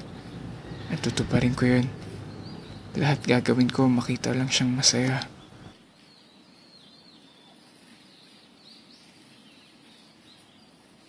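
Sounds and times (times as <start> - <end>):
faint bird chirps: 0.0 - 11.0
low steady background hiss: 0.0 - 11.0.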